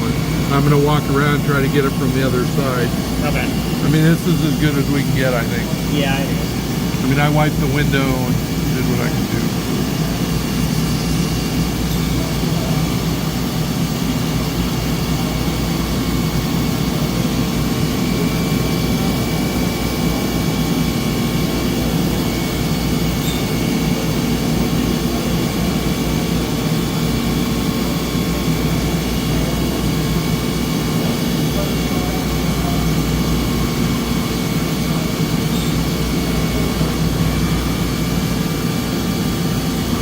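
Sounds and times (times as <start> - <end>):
lathe machine hum: 0.0 - 40.0.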